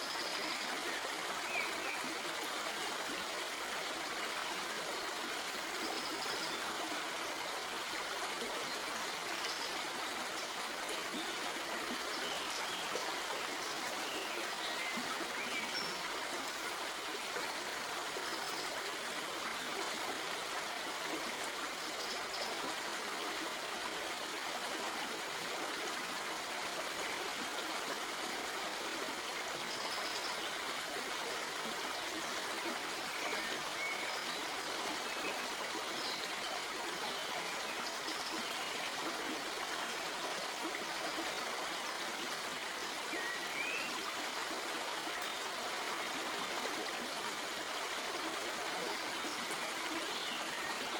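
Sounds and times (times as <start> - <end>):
stream flowing over rocks: 0.0 - 50.9.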